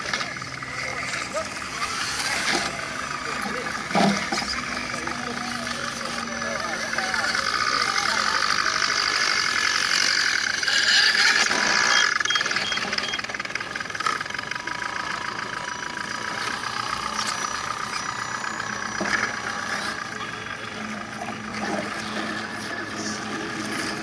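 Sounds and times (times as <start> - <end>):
toy truck motors whining: 0.0 - 24.0.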